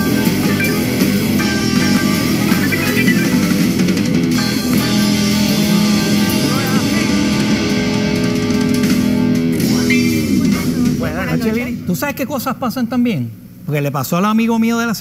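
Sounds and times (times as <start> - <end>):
guitar-led band music: 0.0 - 12.0.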